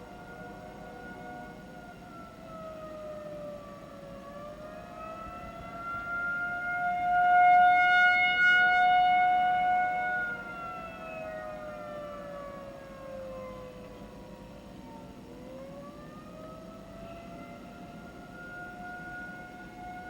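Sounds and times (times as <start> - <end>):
warning siren: 0.0 - 20.0.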